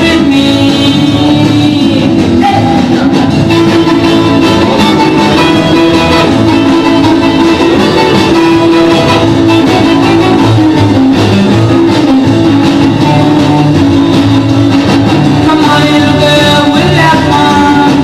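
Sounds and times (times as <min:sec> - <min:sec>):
rock and roll band music: 0:00.0 - 0:18.0.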